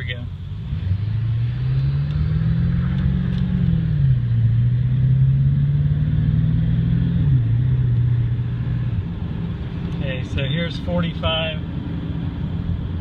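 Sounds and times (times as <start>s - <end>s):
truck engine drone accelerating: 0.3s - 13.0s.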